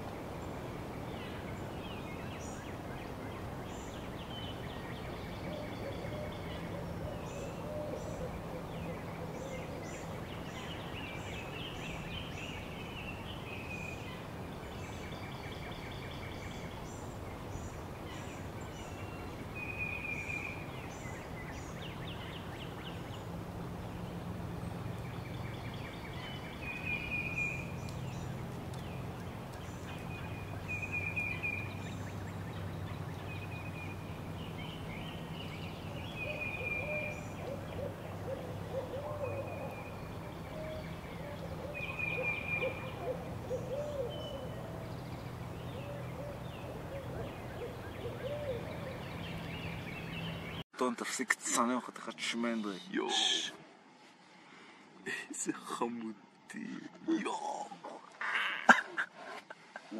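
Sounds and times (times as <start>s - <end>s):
birds calling and chirping: 0.0s - 50.7s.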